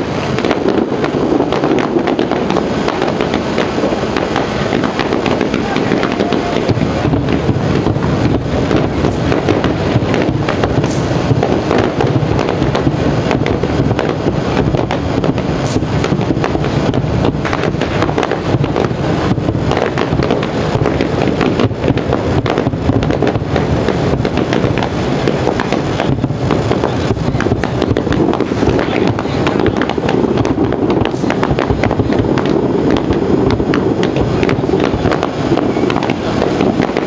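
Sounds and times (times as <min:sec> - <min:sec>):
fireworks crackling: 0:00.0 - 0:37.0.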